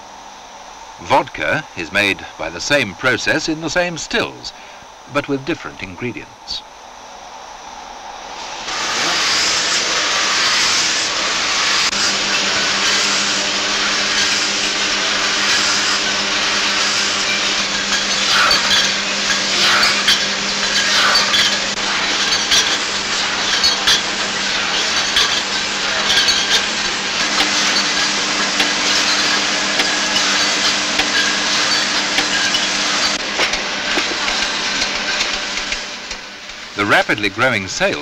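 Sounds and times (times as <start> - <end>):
higher machine hum: 0.0 - 38.0
machine hum: 0.0 - 38.0.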